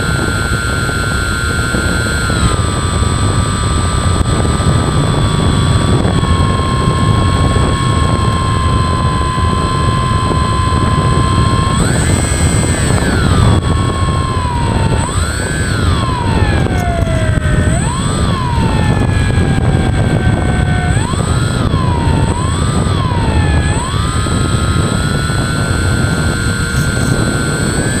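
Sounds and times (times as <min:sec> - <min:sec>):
electric motor and propeller whining: 0:00.0 - 0:28.0.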